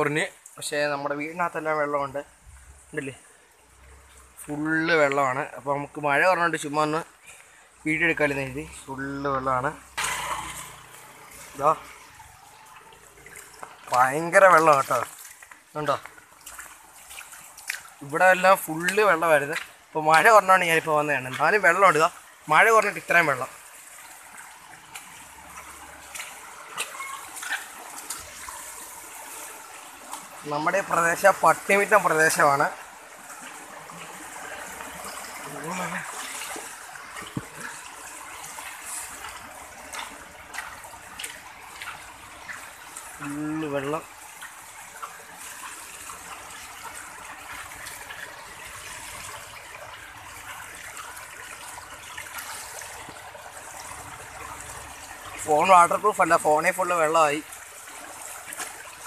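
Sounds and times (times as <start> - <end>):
water trickling over stony path: 0.0 - 59.0.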